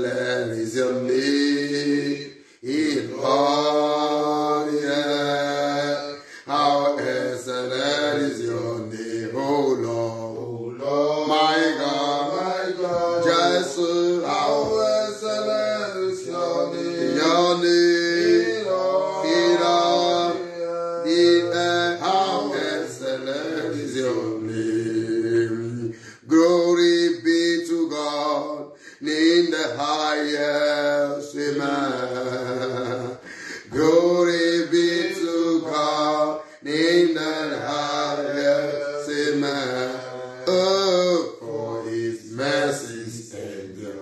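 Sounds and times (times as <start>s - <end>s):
man chanting: 0.0s - 44.0s.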